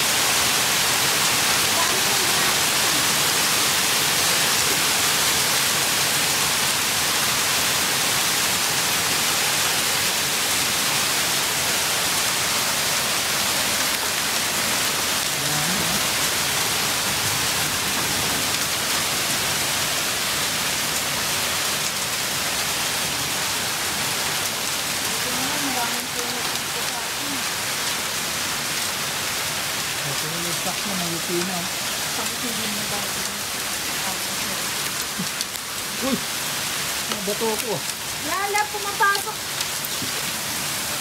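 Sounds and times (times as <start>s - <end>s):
heavy rain and hail falling: 0.0s - 41.0s.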